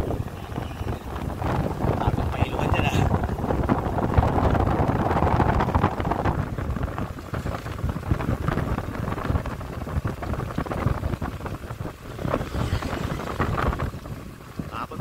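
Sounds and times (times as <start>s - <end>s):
motorcycle engine and tyre rumble: 0.0s - 15.0s
wind rushing over microphone: 0.0s - 15.0s.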